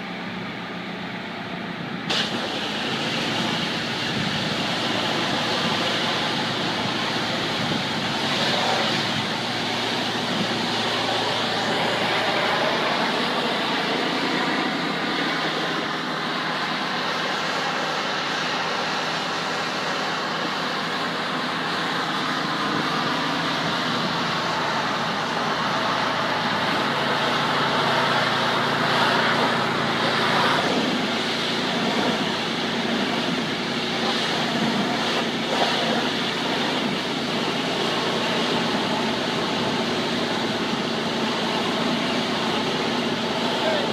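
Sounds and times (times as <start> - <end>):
pressure washer engine drone: 0.0 - 43.9.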